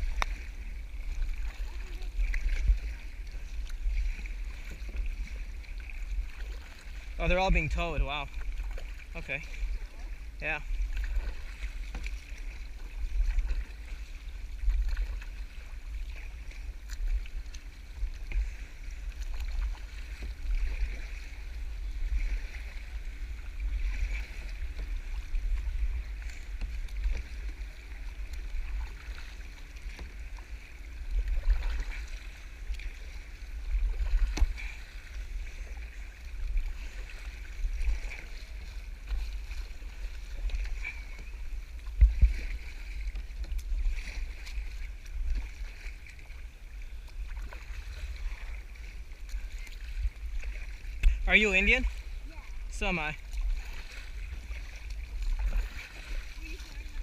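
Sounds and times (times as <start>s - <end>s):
wind rumble on microphone: 0.0s - 51.3s
paddle splashing water: 0.0s - 57.0s.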